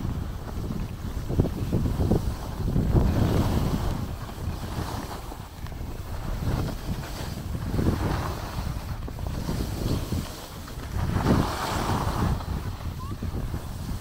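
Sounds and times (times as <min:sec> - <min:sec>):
wind buffeting microphone: 0:00.0 - 0:14.0
skis hissing on snow: 0:00.3 - 0:14.0.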